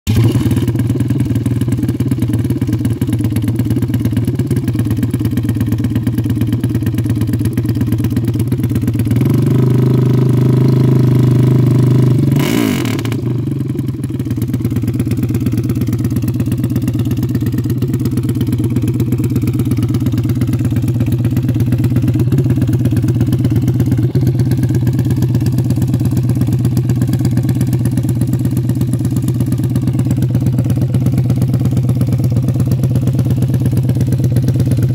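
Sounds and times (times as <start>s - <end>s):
engine idling: 0.1s - 34.9s.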